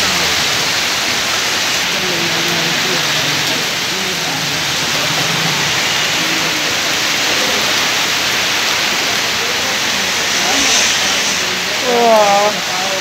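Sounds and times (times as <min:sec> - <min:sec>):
heavy rain on street: 0:00.0 - 0:13.0.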